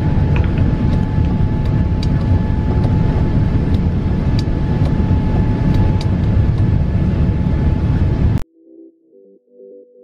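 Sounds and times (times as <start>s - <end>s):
faint steady whine: 0.0s - 8.4s
jet engine and airflow roar: 0.0s - 8.4s.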